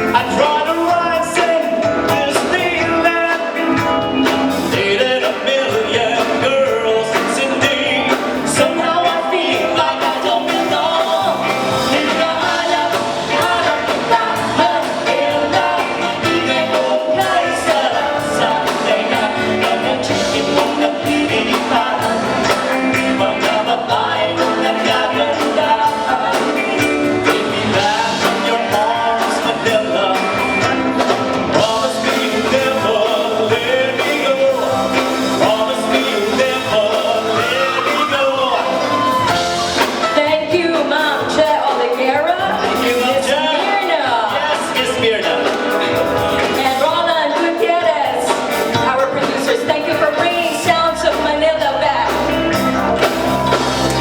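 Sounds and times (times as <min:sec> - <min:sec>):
live band playing: 0:00.0 - 0:54.0
person singing: 0:00.0 - 0:54.0.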